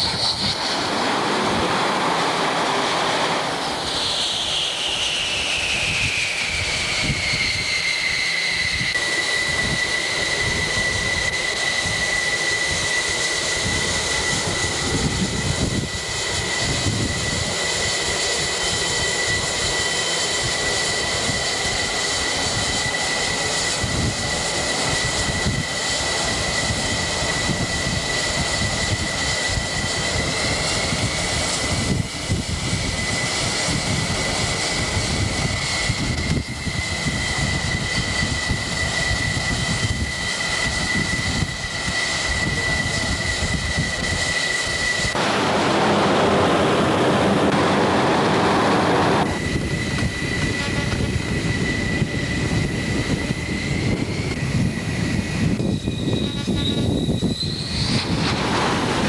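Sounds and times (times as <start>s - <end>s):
jet engines roaring and whining: 0.0s - 59.0s.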